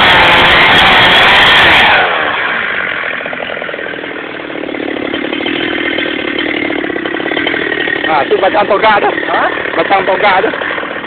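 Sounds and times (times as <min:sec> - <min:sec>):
chainsaw cutting tree trunk: 0:00.0 - 0:11.0.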